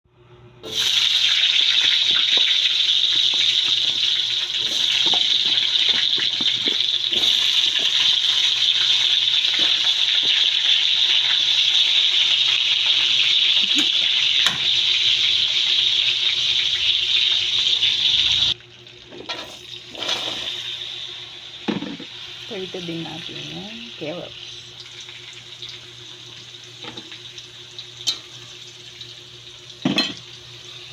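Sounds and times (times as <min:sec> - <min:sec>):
food sizzling in hot oil: 0:00.6 - 0:30.9.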